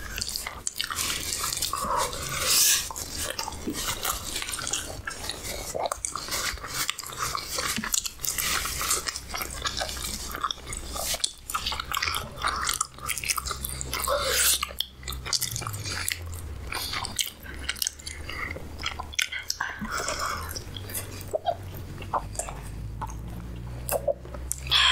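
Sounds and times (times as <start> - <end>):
person biting and chewing food: 0.0 - 24.9
steady low hum: 0.0 - 24.9.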